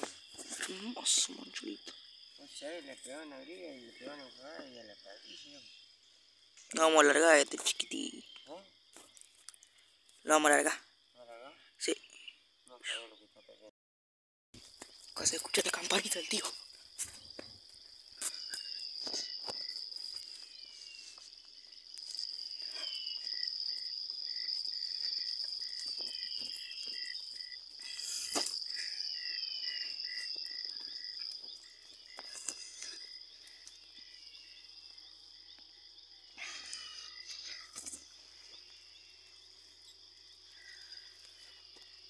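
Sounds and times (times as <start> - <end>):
regular chirping call: 0.0 - 10.4, 11.6 - 13.7, 14.8 - 42.0
insects trilling: 0.0 - 13.7, 14.6 - 42.0.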